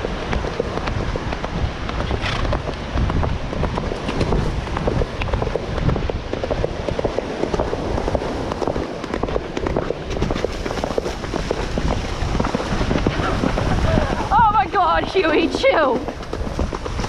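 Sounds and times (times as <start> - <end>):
hooves striking wet sand: 0.0 - 17.0
wind buffeting microphone: 0.0 - 17.0.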